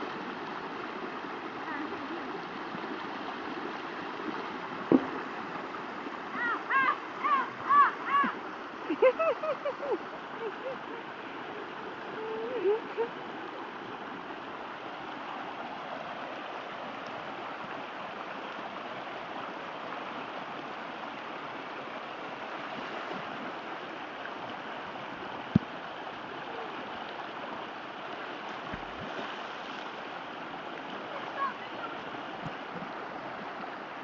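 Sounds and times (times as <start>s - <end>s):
creek water flowing: 0.0s - 34.0s.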